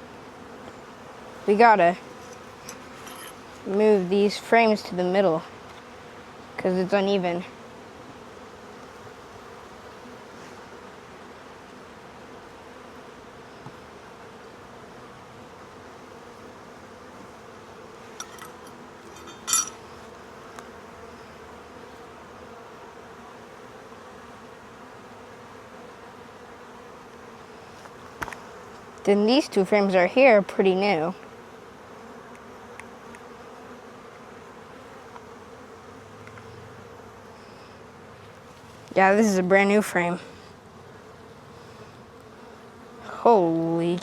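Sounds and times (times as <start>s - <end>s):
honeybees humming: 0.0s - 44.0s.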